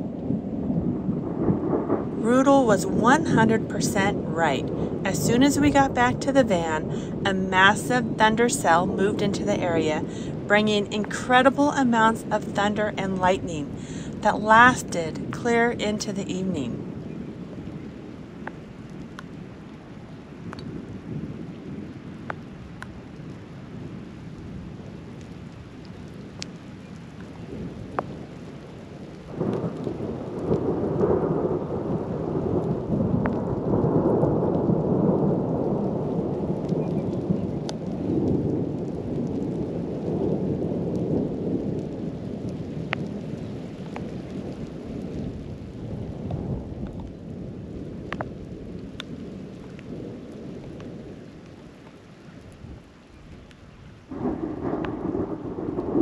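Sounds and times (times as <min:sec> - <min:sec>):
rain falling: 0:00.0 - 0:56.0
thunder rumbling: 0:00.0 - 0:56.0.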